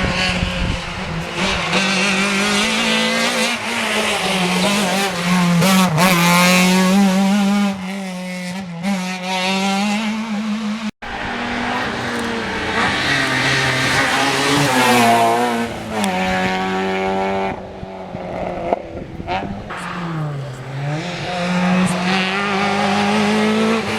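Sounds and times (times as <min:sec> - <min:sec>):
car accelerating: 0:00.0 - 0:23.9
rally car engines at high revs: 0:00.0 - 0:23.9.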